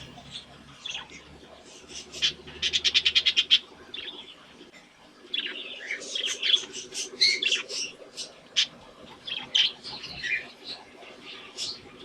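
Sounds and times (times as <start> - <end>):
budgies chirping: 0.0 - 4.5, 5.3 - 12.0.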